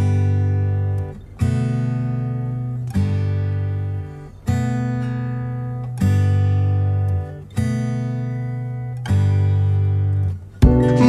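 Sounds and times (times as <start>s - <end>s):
acoustic guitar strummed chords: 0.0s - 11.0s.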